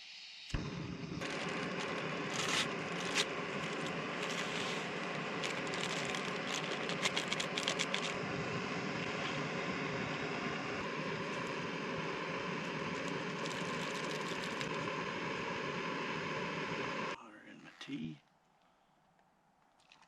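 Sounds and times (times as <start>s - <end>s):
gas stove hissing: 0.0s - 17.2s.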